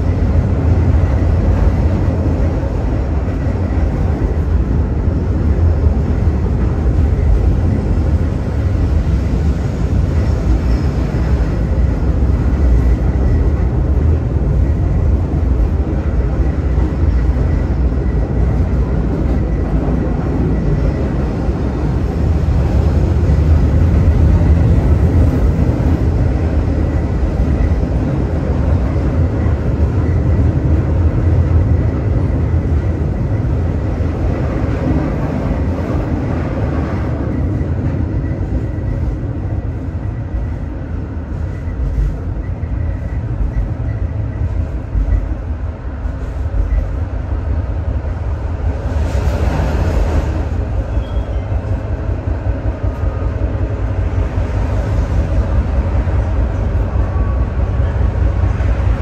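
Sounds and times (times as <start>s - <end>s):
tram rumbling on rails: 0.0s - 59.0s.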